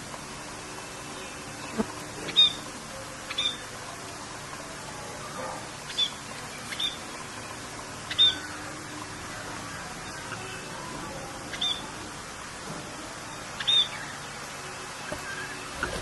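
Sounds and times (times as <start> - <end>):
rain hissing: 0.0 - 16.0
birds chirping: 0.6 - 3.8, 5.5 - 12.4, 13.0 - 16.0.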